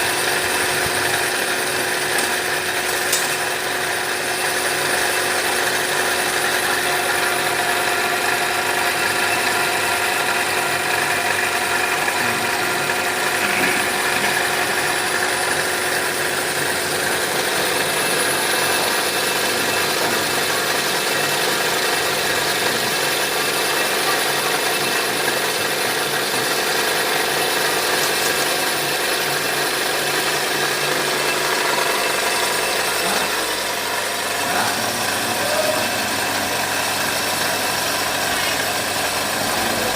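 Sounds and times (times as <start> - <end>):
boring machine motor humming: 0.0 - 39.9.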